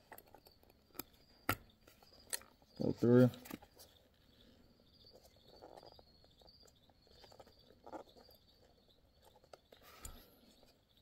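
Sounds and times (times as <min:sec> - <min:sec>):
faint high chirping: 0:00.0 - 0:11.0.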